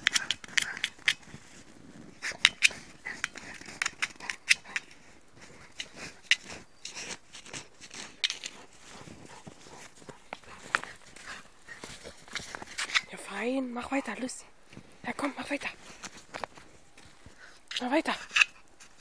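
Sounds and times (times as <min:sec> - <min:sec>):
dog paws scratching ground: 0:00.0 - 0:19.0.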